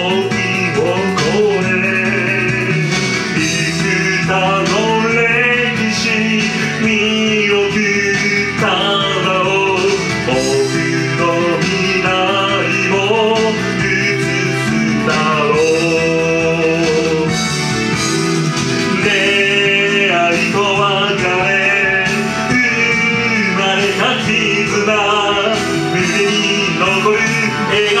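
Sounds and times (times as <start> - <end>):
band playing song with guitar: 0.0 - 28.0.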